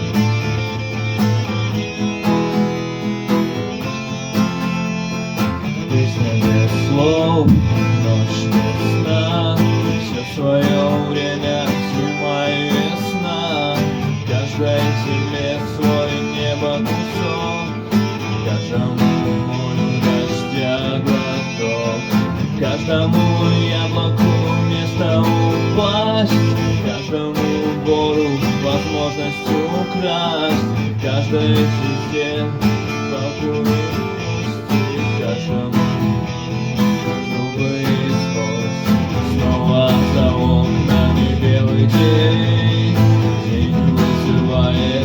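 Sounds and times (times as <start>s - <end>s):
instrumental rock music: 0.0s - 45.0s.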